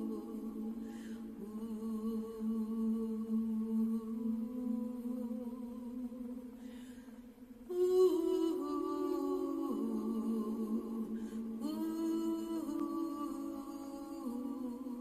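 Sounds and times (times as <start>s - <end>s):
person chanting in held tones: 0.0s - 6.4s, 7.7s - 15.0s.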